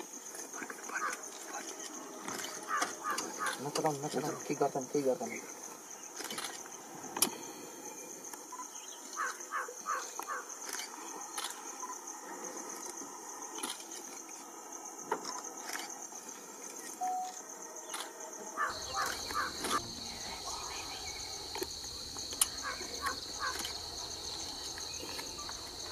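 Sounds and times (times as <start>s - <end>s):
insects chirring: 0.0s - 25.9s
low insect tone: 0.0s - 25.9s
short insect chirps: 0.0s - 25.9s.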